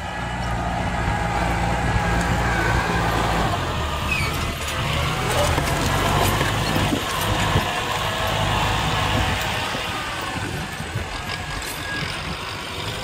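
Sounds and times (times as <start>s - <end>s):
tractor diesel engine drone: 0.0s - 13.0s.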